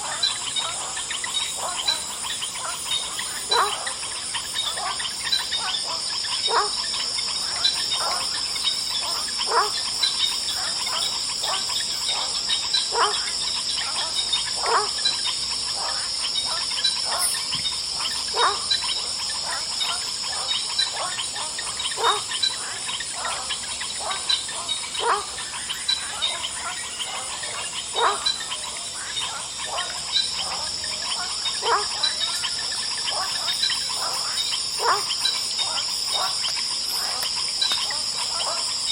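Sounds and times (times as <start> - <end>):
crickets trilling: 0.0 - 38.9
frogs calling: 0.0 - 38.9.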